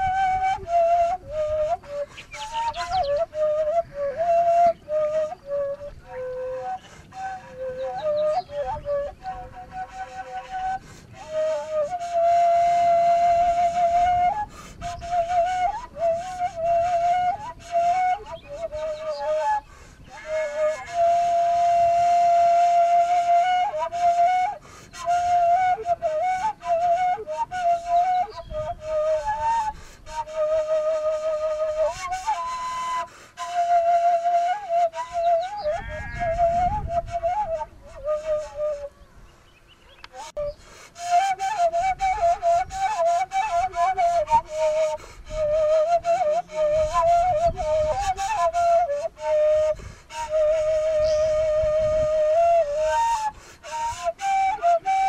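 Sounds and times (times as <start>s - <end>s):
solo flute melody: 0.0s - 55.0s.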